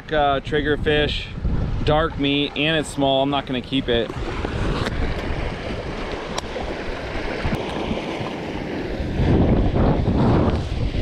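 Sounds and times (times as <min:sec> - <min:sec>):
wind buffeting microphone: 0:00.0 - 0:11.0
water lapping against boat: 0:01.2 - 0:11.0.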